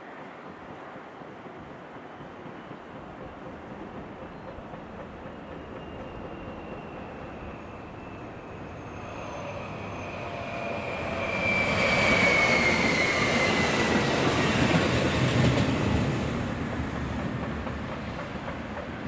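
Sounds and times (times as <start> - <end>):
train wheels rumbling on rails: 0.0 - 19.0
train high whine: 0.1 - 19.0.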